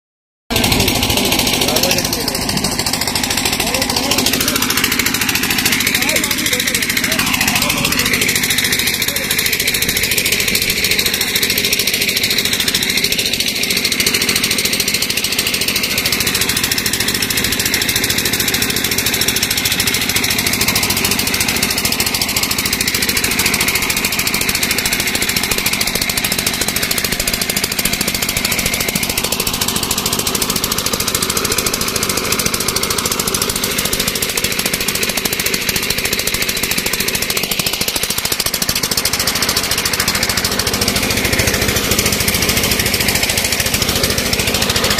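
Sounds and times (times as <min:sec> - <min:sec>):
diesel engine knocking: 0:00.5 - 0:44.9.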